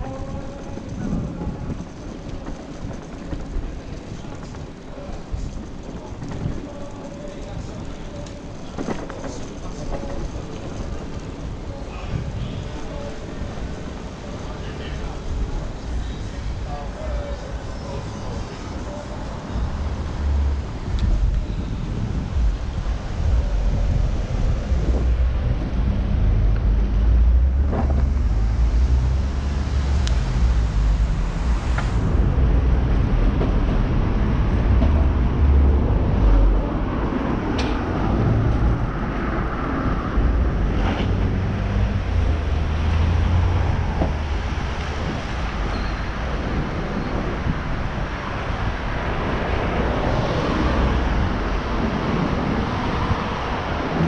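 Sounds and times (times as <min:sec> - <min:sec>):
street traffic: 0:00.0 - 0:54.0
wind rumbling on microphone: 0:00.0 - 0:54.0.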